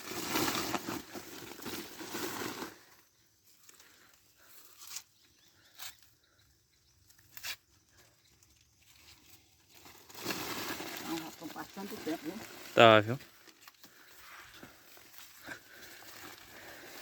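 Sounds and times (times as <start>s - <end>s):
dry maize plants rustling: 0.0s - 17.0s.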